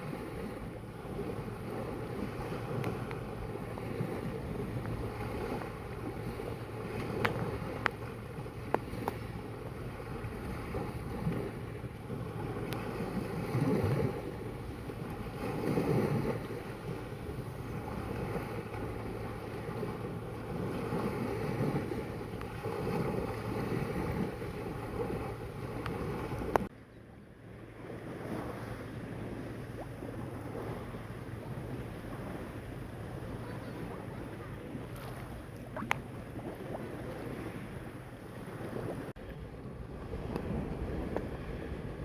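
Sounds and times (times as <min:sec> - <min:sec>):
wind buffeting microphone: 0:00.0 - 0:26.7, 0:27.6 - 0:42.0
sea waves washing in: 0:00.0 - 0:26.8, 0:27.4 - 0:42.0.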